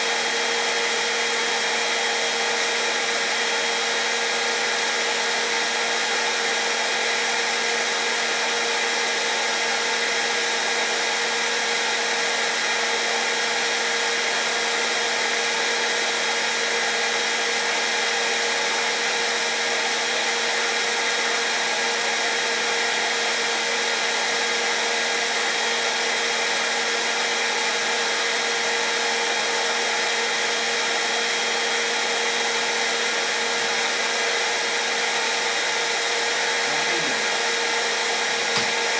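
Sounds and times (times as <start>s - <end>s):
hairdryer running: 0.0s - 38.9s.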